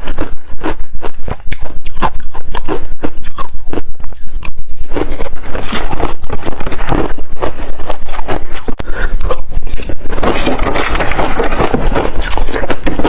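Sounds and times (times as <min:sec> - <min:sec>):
ice being chewed: 0:00.0 - 0:13.0.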